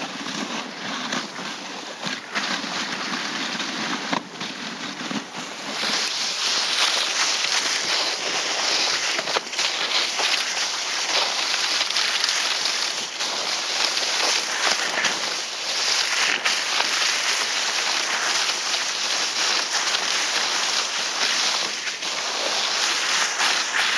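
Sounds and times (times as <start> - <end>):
sledge runners scraping over snow: 0.0 - 23.9.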